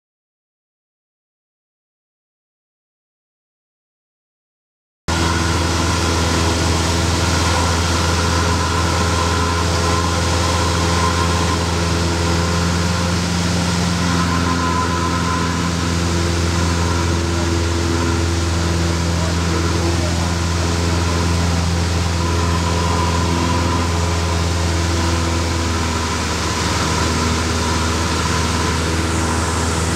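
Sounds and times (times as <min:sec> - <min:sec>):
light aircraft engine drone: 0:05.1 - 0:29.9.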